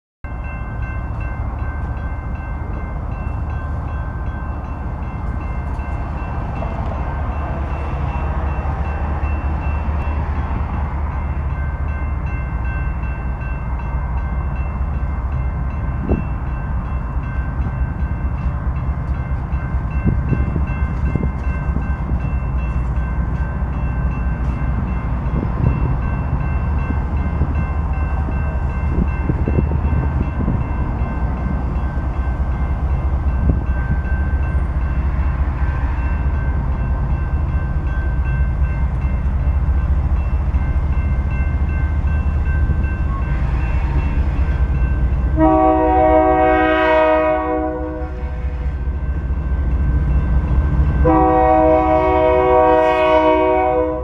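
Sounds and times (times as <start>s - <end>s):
railroad crossing bells ringing: 0.2s - 54.0s.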